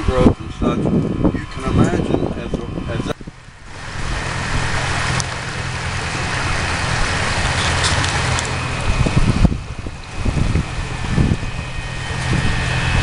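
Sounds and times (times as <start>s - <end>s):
boat motor humming: 0.0s - 13.0s
water and wind rushing: 0.0s - 13.0s.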